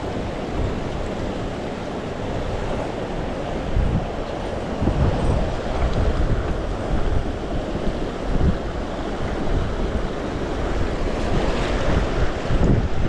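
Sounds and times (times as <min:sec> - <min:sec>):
stream water rushing: 0:00.0 - 0:13.0
wind on microphone: 0:00.0 - 0:13.0.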